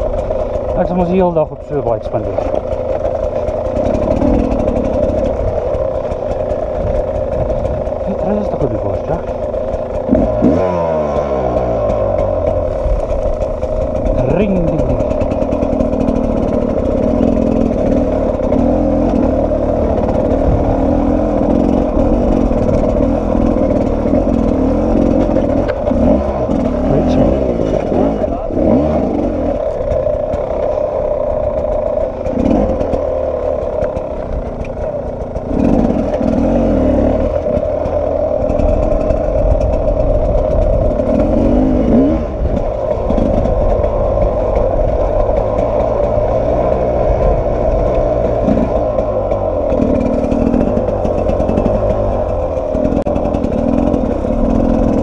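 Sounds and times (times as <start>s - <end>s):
motorcycle rattling: 0.0s - 55.0s
two-stroke motorcycle engine revving: 0.0s - 55.0s.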